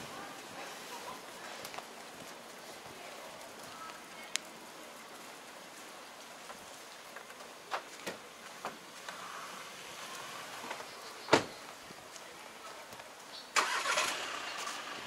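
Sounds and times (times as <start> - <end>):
city street hiss: 0.0 - 15.0.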